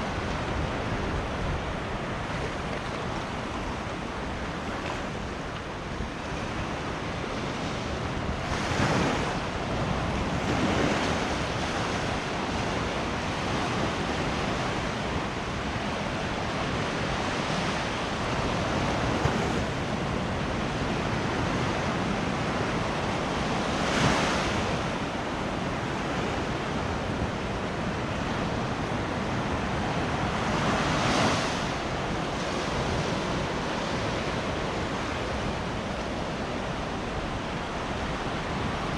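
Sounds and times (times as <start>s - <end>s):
waves breaking: 0.0s - 38.9s
waves washing on sand: 0.0s - 38.9s
wind noise on microphone: 0.0s - 38.9s.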